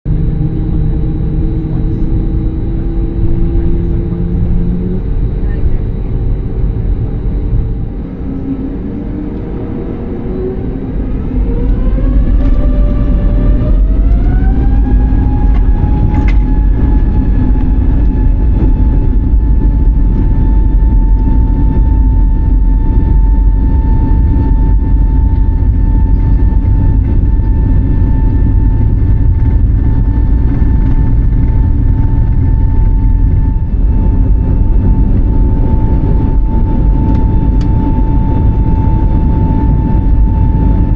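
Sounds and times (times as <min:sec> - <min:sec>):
jet engines spooling up: 0:00.1 - 0:40.9.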